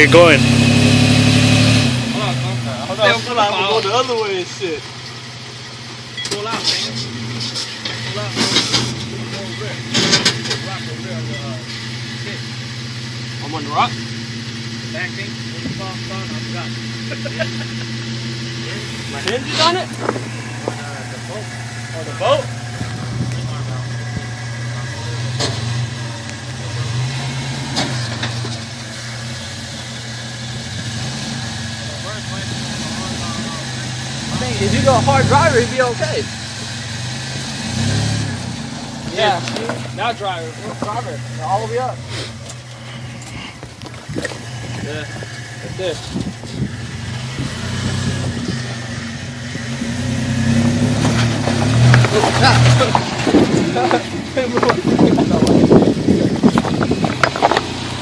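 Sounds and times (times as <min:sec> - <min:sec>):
engine running at low revs: 0:00.0 - 0:58.0.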